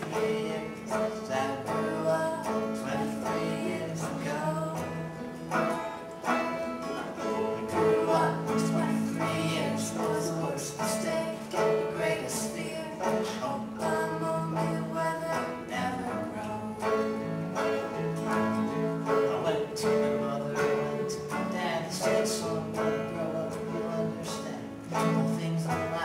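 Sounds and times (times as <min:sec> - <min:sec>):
woman singing: 0:00.0 - 0:05.2, 0:06.4 - 0:26.0
acoustic guitar and banjo: 0:00.0 - 0:26.0.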